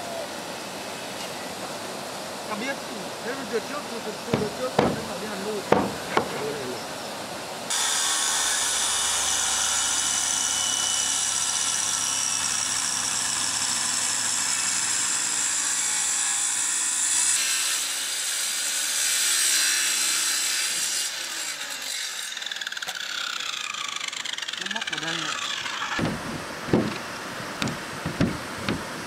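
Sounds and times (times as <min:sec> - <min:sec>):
power saw cutting wood: 0:02.5 - 0:06.8, 0:07.7 - 0:29.0.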